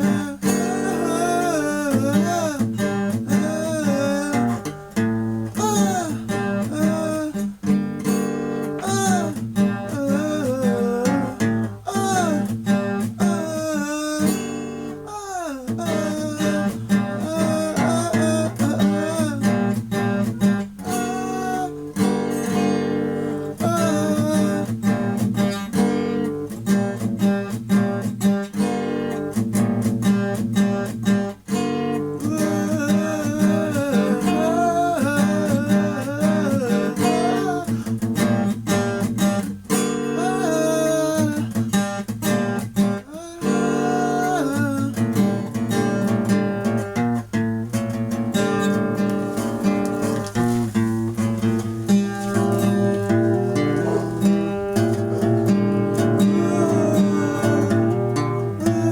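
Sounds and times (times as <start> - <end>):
punk guitar strummed and plucked: 0.0 - 58.9.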